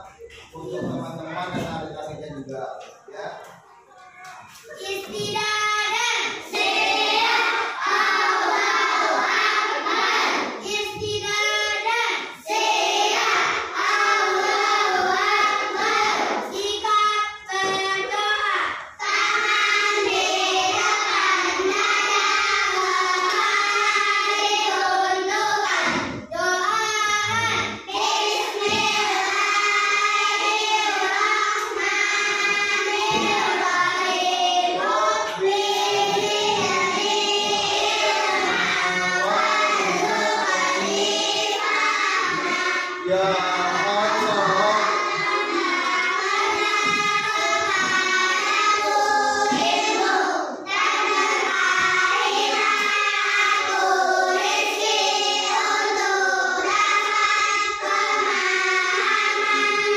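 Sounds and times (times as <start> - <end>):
children singing in unison: 0.0 - 2.2, 3.1 - 59.9.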